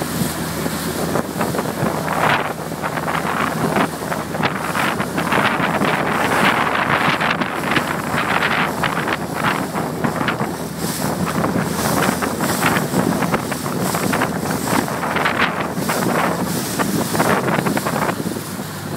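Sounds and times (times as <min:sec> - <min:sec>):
choppy sea water splashing: 0:00.0 - 0:18.9
strong wind on microphone: 0:00.0 - 0:18.9.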